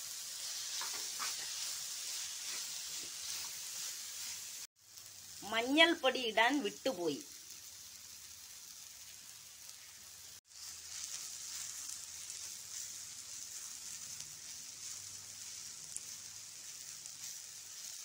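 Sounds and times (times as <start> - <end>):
filling sizzling in hot oil: 0.0 - 18.0.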